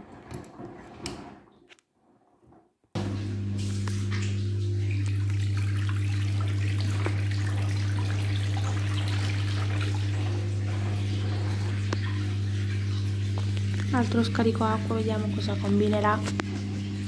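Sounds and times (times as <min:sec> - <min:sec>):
drain pump humming: 0:03.0 - 0:17.0
water gushing into a bathtub: 0:03.0 - 0:17.0.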